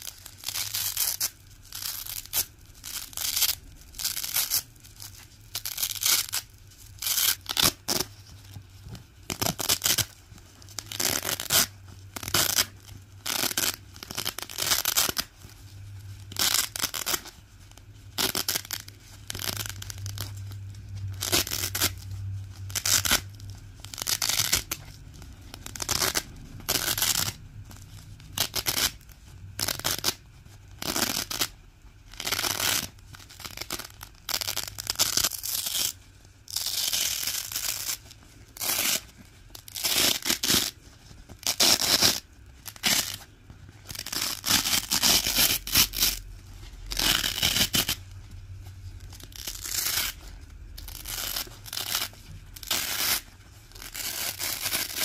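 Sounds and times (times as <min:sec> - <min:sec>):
velcro strips ripping: 0:00.0 - 0:55.0.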